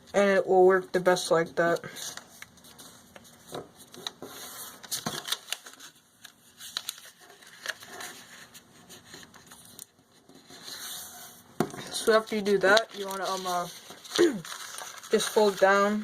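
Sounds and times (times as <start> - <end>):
paper folding and rustling: 1.7 - 11.2, 11.8 - 16.0.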